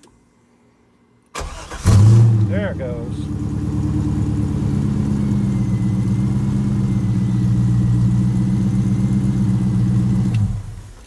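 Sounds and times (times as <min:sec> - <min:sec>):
car engine idling: 0:01.4 - 0:11.0.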